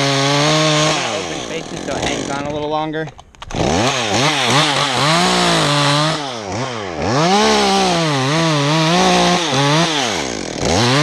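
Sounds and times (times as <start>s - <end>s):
chainsaw cutting wood: 0.0s - 11.0s.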